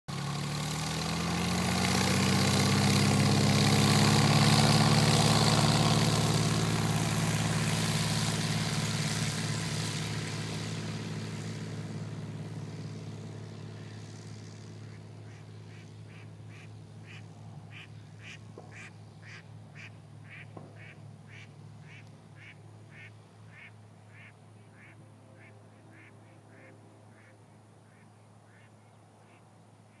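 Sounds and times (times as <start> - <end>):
airplane engine at takeoff power: 0.1 - 30.0.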